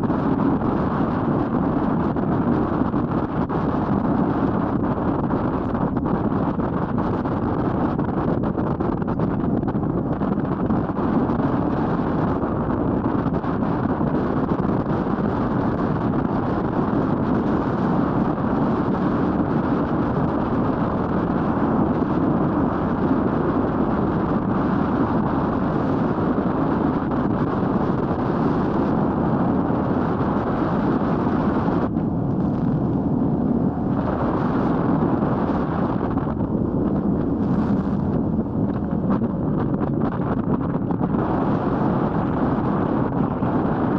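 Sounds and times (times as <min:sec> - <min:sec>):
motorcycle engine and road noise: 0:00.0 - 0:43.9
wind rush on microphone: 0:00.0 - 0:43.9.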